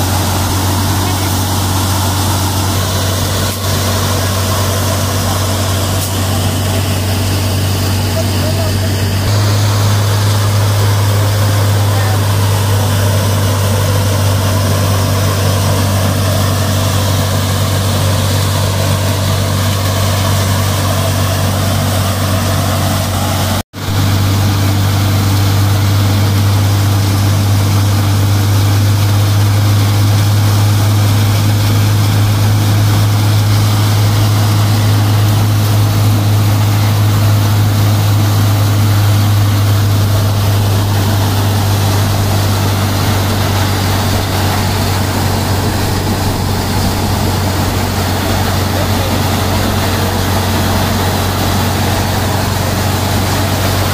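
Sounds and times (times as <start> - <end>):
thresher running under load: 0.0 - 53.9
tractor diesel engine: 0.0 - 53.9.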